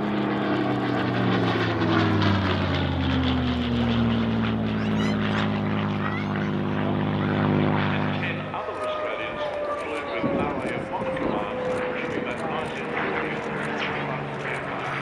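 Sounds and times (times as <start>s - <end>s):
propeller plane engine passing: 0.0s - 15.0s.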